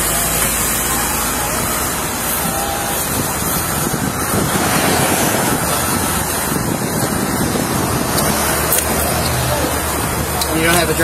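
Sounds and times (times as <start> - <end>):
wind on microphone: 1.5 - 11.0.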